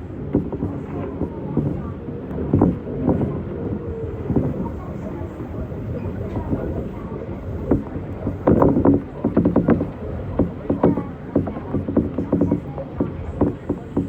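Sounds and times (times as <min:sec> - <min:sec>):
monorail train rumble: 0:00.0 - 0:14.0.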